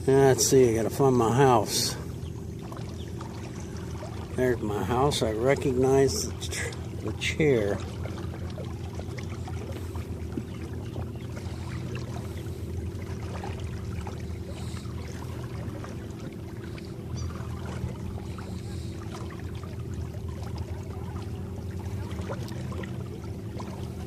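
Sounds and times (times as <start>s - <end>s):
electric boat motor humming: 0.0s - 24.0s
water splashing along hull: 0.0s - 24.0s.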